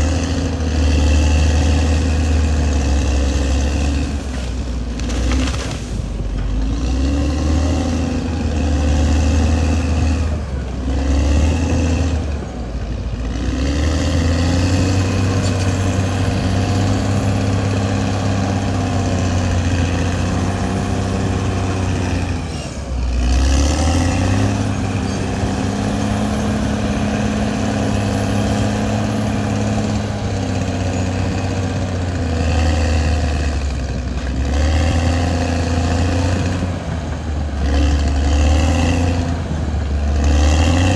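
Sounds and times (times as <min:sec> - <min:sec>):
bulldozer diesel engine under load: 0:00.0 - 0:40.9.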